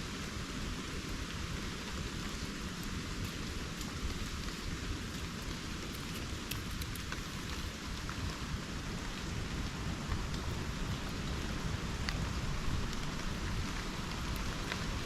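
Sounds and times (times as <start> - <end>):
rain on foliage: 0.0 - 15.0
raindrop ticks: 1.8 - 15.0.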